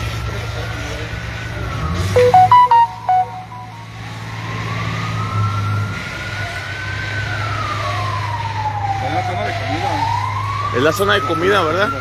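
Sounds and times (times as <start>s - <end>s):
fire truck siren wailing: 0.7s - 12.0s.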